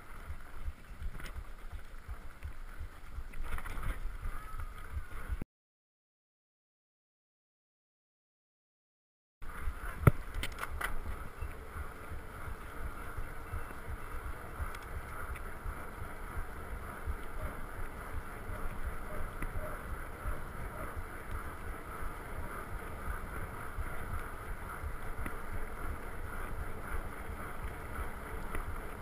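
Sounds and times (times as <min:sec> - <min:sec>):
bike tires rolling on tarmac: 0:00.0 - 0:05.4, 0:09.4 - 0:29.0.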